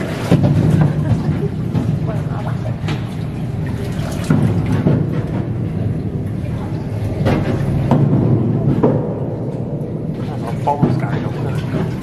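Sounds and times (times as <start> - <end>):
boat drone echoing in tunnel: 0.0 - 12.0.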